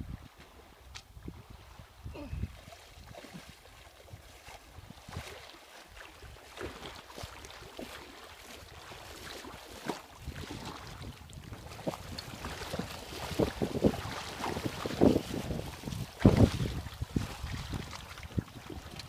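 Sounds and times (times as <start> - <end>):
water splashing around wading legs: 2.5 - 19.0.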